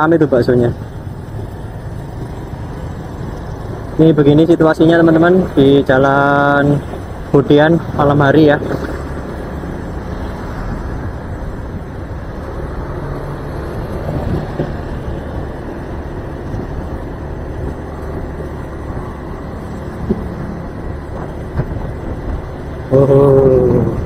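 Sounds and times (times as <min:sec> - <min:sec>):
wind and road noise: 0:00.0 - 0:24.0
motor scooter engine: 0:00.5 - 0:24.0.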